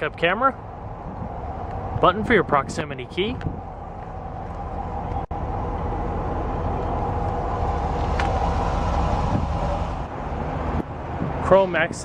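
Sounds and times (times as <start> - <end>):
engine idling low rumble: 0.0 - 11.4.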